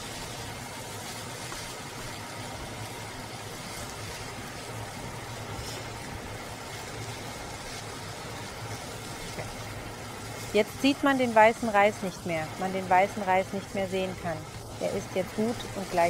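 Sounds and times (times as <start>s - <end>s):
low hum and hiss: 0.0s - 16.0s
rice frying in a wok: 0.0s - 16.0s.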